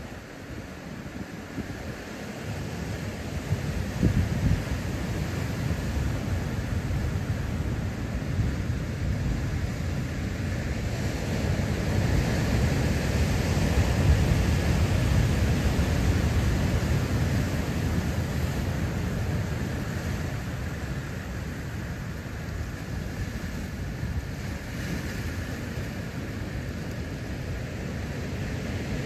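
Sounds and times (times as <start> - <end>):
ocean surf breaking on rocks: 0.0 - 29.0.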